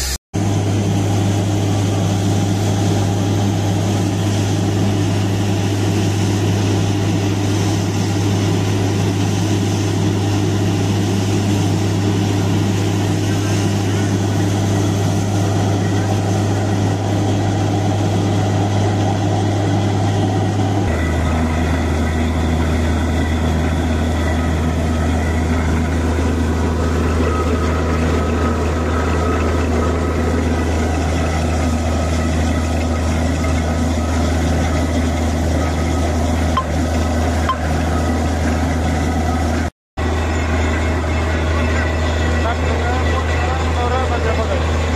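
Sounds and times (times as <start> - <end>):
drilling rig engine drone: 0.0 - 44.9.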